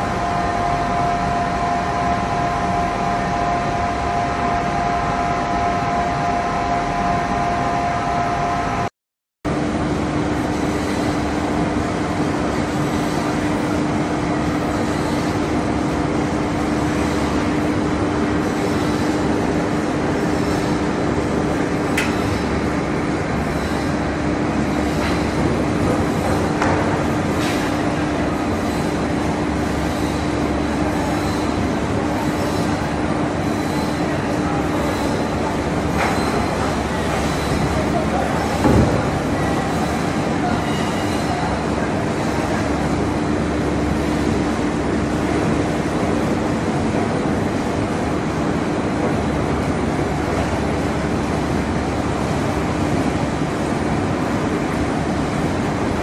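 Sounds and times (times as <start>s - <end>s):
machinery din with whining tone: 9.5s - 56.0s.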